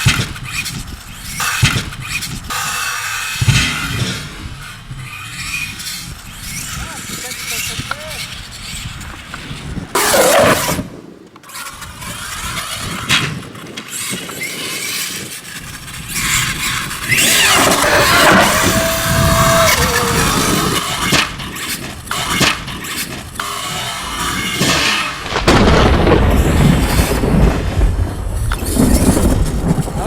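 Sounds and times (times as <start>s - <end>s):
electric motor whining: 0.0s - 11.0s, 11.6s - 30.0s
drivetrain rattle and tire grind: 0.0s - 30.0s.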